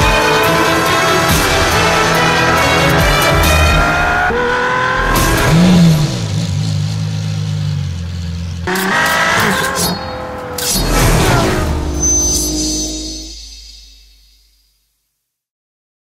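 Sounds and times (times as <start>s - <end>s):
car engine revving hard: 0.1s - 13.3s.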